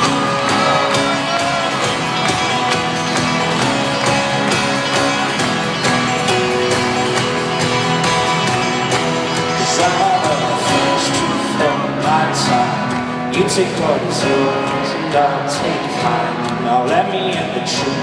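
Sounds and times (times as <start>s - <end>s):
fast strummed acoustic guitar: 0.0s - 18.0s
live band playing folk-rock: 0.0s - 18.0s.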